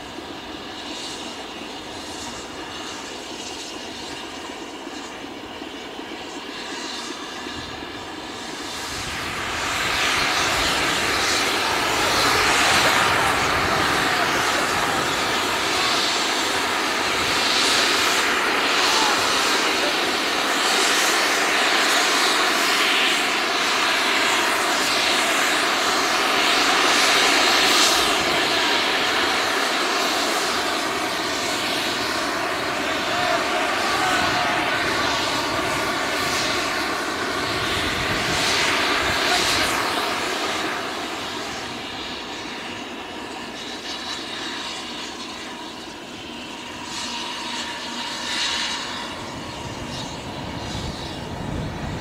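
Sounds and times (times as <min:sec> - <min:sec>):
railway locomotive working: 0:00.0 - 0:43.6.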